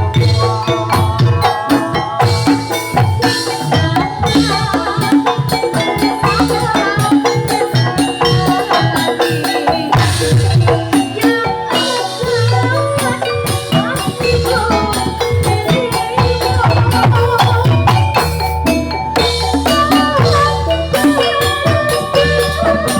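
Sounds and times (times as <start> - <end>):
drums: 0.0 - 22.9
metallophones ringing: 0.0 - 22.9
rattling percussion: 0.0 - 22.9.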